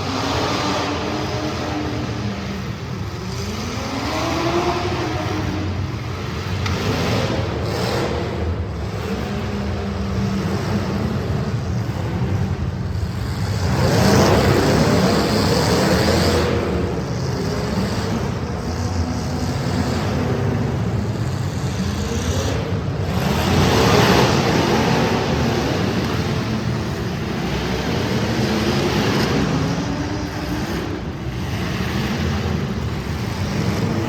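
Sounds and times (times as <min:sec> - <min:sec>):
race car engines running hard: 0:00.0 - 0:34.0.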